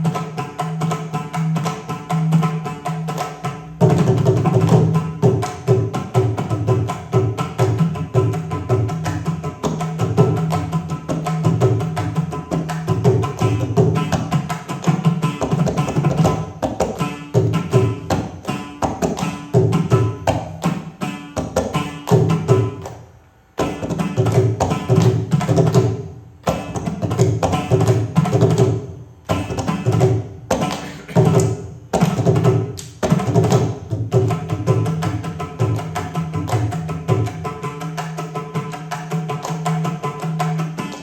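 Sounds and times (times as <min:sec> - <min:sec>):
hand drum playing: 0:00.0 - 0:41.0.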